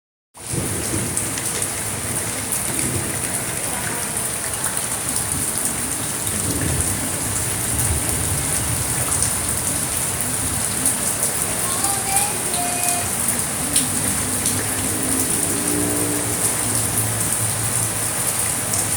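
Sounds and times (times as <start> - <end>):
heavy rain on a surface: 0.4 - 18.9.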